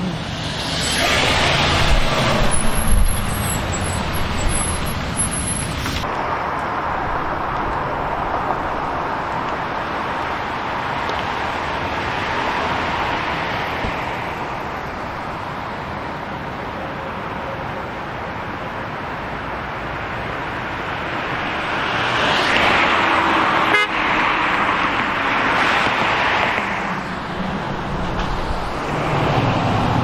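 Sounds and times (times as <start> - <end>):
traffic noise: 0.0 - 30.0
vehicles passing: 0.0 - 30.0.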